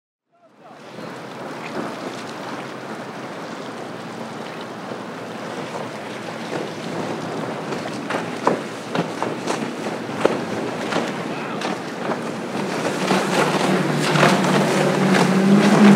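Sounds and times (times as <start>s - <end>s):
outboard engine drone: 0.4s - 15.9s
water wash and spray: 0.8s - 15.9s.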